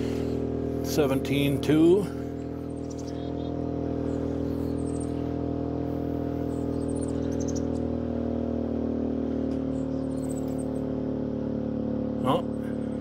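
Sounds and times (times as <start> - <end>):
generator engine running hard: 0.0 - 13.0.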